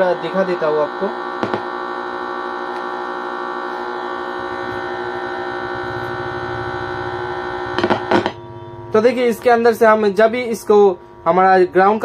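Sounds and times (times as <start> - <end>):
speaker electrical hum: 0.0 - 12.0.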